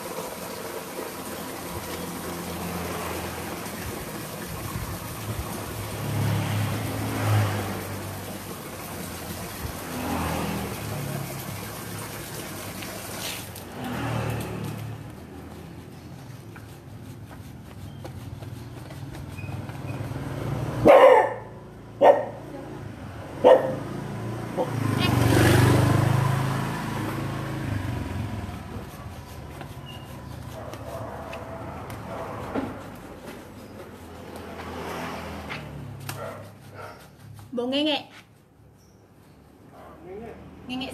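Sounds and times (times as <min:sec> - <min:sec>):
vehicle engine passing by: 0:01.0 - 0:40.9.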